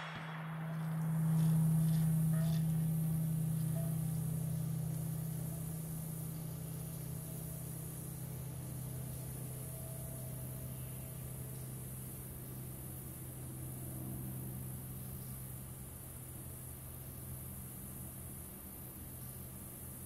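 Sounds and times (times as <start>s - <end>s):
high-pitched hiss: 0.0s - 20.0s
low droning hum: 0.0s - 20.0s.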